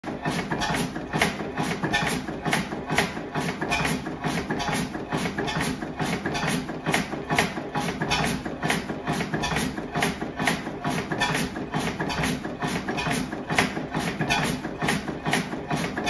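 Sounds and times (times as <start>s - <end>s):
oil engine knocking: 0.0s - 16.0s.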